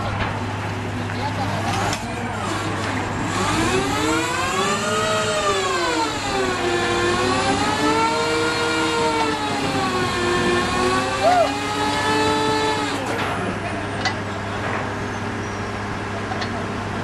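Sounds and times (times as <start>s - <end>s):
heavy engine revving: 0.0s - 17.0s.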